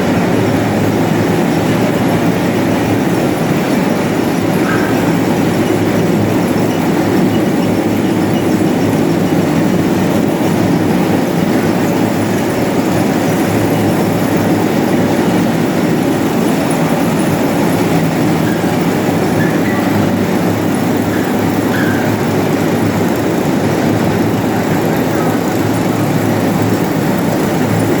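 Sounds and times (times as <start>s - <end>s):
grain cleaner machinery rattling drone: 0.0s - 28.0s.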